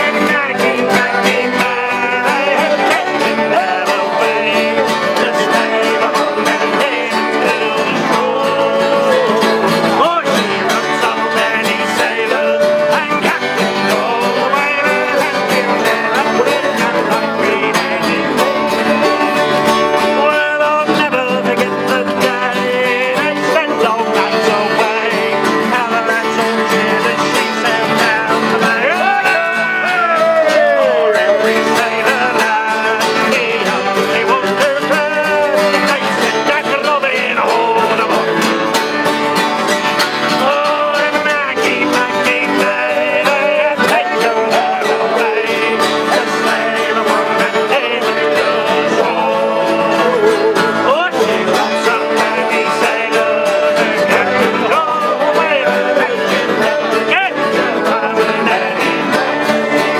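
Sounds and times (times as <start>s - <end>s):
button accordion: 0.0s - 59.9s
mandolin: 0.0s - 59.9s
men singing sea shanty: 0.0s - 59.9s
strummed acoustic guitars: 0.0s - 59.9s.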